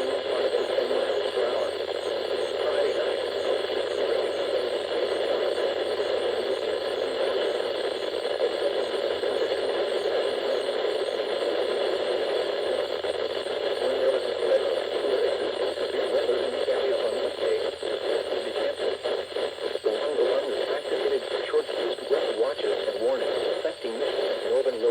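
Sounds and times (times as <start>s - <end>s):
radio static: 0.0s - 24.9s.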